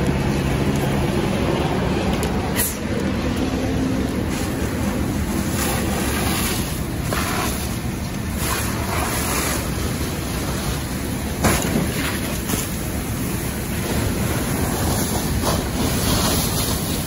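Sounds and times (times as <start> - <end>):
fire hose stream rushing: 0.0 - 17.0
low rumble of fire: 0.0 - 17.0.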